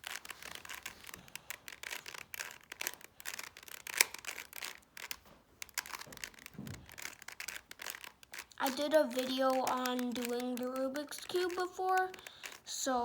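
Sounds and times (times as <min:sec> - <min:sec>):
puzzle cube clicking and scraping: 0:00.0 - 0:13.0.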